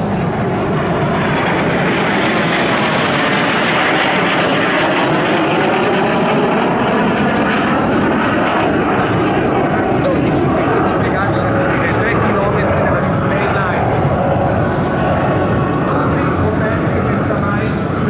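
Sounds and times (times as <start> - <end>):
jet aircraft flying past: 0.0 - 18.0.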